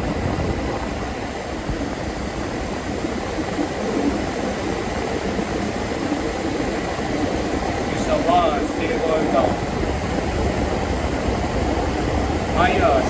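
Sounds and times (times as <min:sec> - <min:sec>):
refrigeration unit whine: 0:00.0 - 0:13.0.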